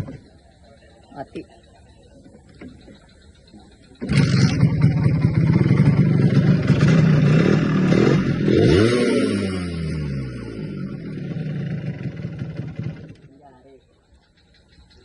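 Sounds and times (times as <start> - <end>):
motorcycle engine starting and revving: 0.0 - 1.0, 1.6 - 15.0.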